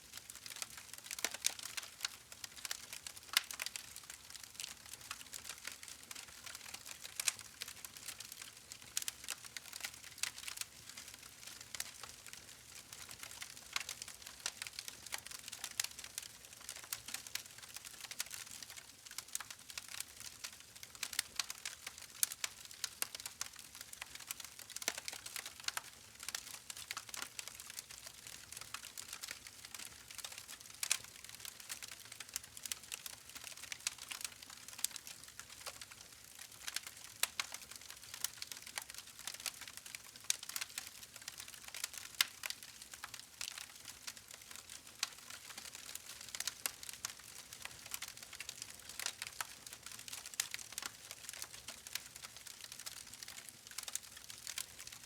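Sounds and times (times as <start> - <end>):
burning wood crackling and popping: 0.1 - 55.0.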